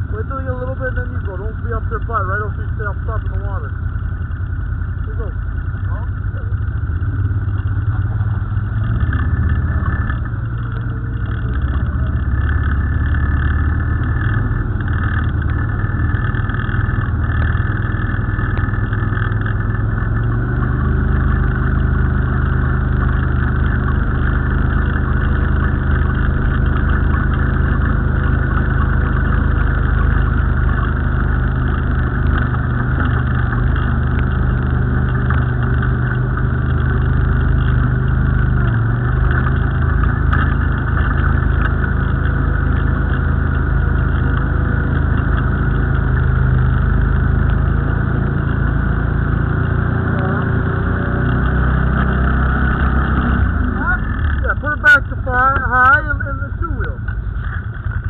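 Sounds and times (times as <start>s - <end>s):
atv engines running: 0.0s - 58.0s
water splashing around wheels: 3.8s - 58.0s.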